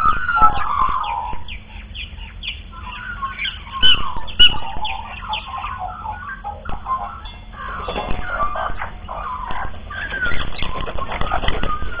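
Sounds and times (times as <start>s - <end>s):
magpies warbling and calling: 0.0s - 12.0s.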